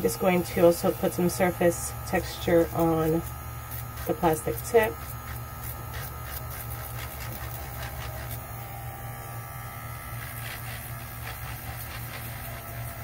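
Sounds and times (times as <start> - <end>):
electric nail file humming: 0.0 - 13.0.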